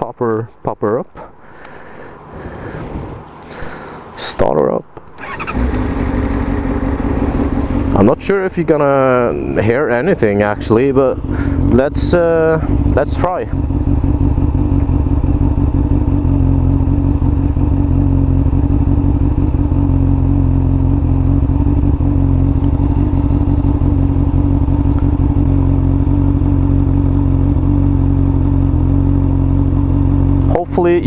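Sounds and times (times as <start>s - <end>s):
motorcycle engine idling: 1.4s - 4.3s, 5.0s - 31.0s.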